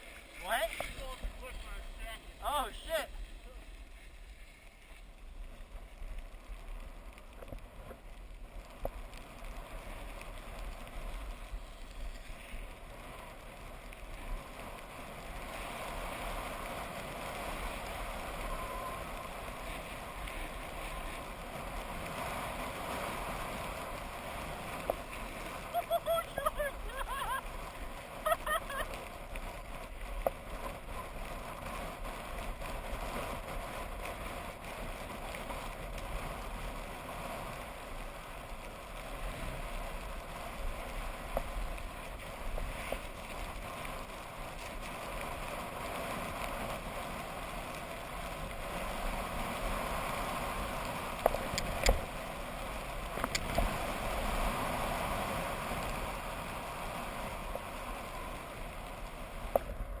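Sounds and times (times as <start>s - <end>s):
skis scraping on packed snow: 0.0s - 60.0s
wind rushing over camera: 0.0s - 60.0s.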